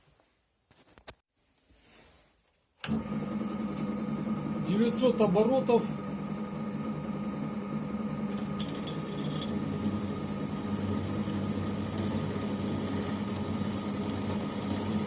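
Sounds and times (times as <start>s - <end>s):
drill press motor humming: 2.8s - 15.0s.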